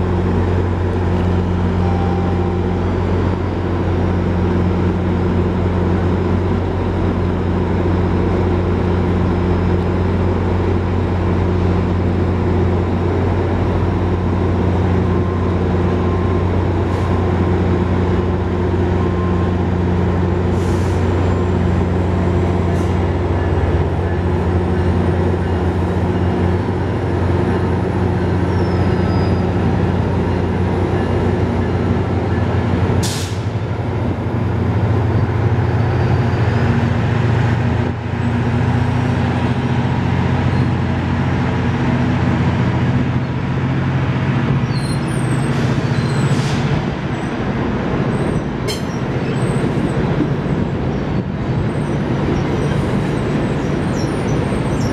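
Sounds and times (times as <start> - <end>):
diesel locomotive engine running: 0.0 - 54.9.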